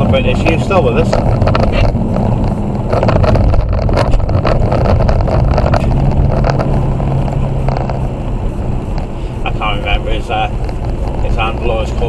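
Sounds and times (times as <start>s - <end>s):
car engine drone: 0.0s - 12.0s
road knocks: 0.0s - 12.0s
tyre rumble: 0.0s - 12.0s.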